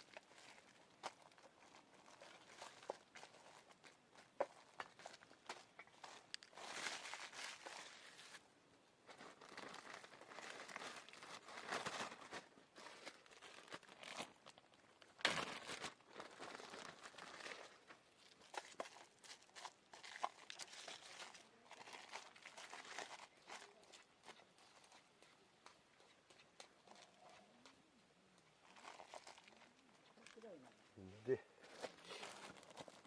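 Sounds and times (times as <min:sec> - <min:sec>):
rustling and crinkling: 0:00.0 - 0:33.0.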